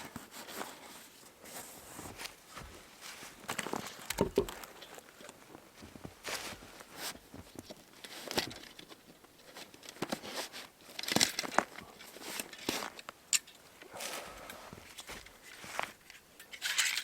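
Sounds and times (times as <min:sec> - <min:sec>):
rustling and crinkling gear: 0:00.0 - 0:17.0.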